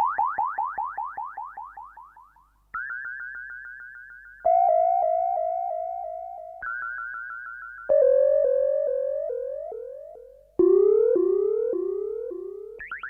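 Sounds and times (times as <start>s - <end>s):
electronic blip pulses: 0.0s - 13.0s.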